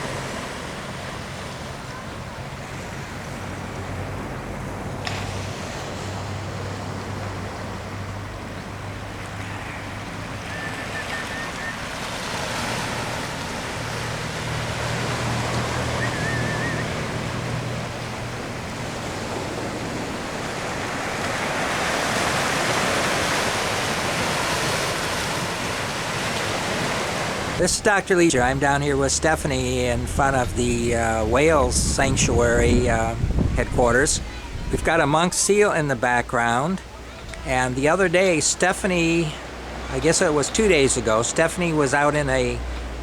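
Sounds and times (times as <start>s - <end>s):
ocean surf washing in: 0.0s - 43.0s.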